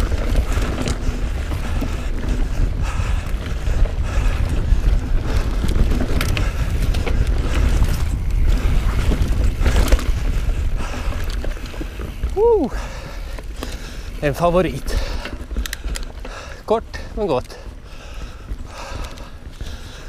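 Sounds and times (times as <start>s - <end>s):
bike rattling: 0.0s - 20.0s
wind buffeting microphone: 0.0s - 20.0s.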